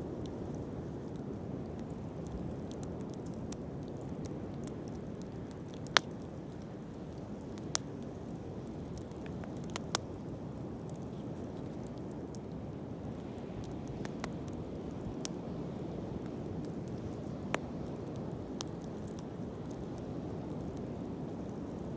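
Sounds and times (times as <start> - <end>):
faint fire crackles: 0.0 - 21.9
wood fire burning: 0.0 - 21.9.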